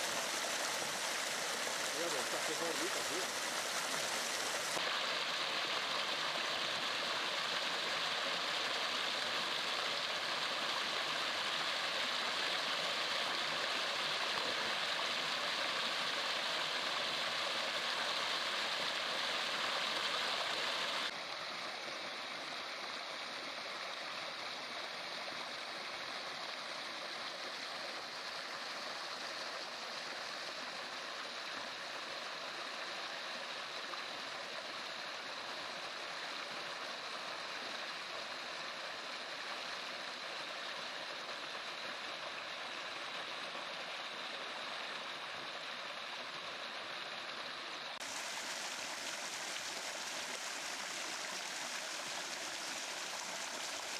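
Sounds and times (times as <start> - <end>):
stream running water: 0.0 - 53.9.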